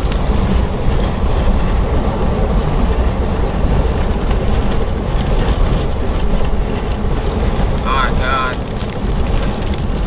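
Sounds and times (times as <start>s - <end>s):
strong storm wind: 0.0s - 10.0s
vehicle noise: 0.0s - 10.0s.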